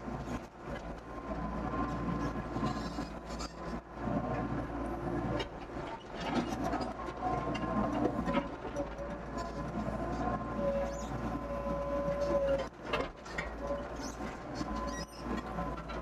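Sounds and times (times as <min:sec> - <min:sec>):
excavator engine hum: 0:00.0 - 0:16.0.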